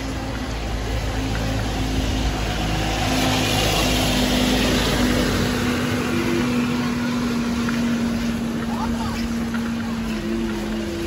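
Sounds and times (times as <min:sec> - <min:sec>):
traffic hiss on wet road: 0:00.0 - 0:11.0
vehicle engine humming: 0:00.0 - 0:11.0.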